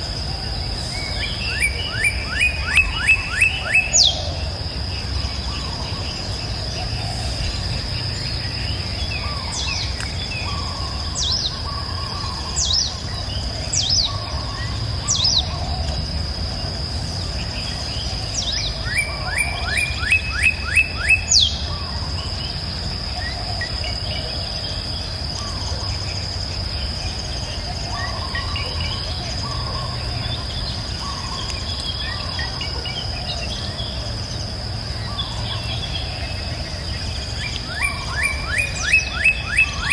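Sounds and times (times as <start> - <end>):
insect drone: 0.0 - 39.9
songbirds calling: 0.0 - 39.9.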